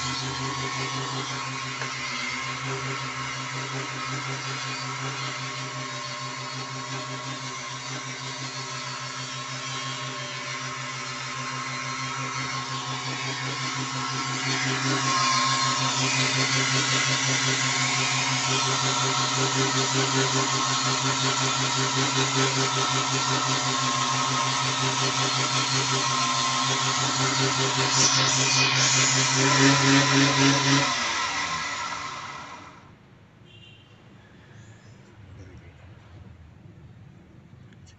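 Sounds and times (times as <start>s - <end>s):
chisel scraping spinning wood: 0.0s - 31.7s
small electric motor running: 0.0s - 32.9s.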